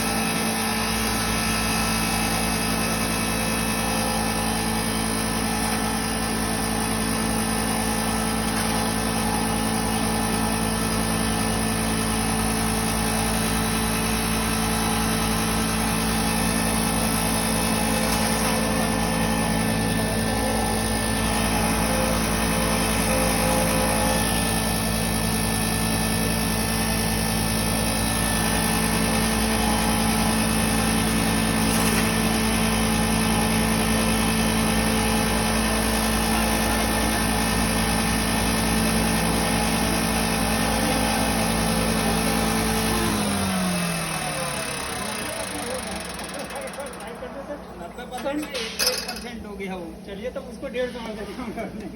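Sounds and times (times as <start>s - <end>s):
grinding machine humming: 0.0s - 50.8s.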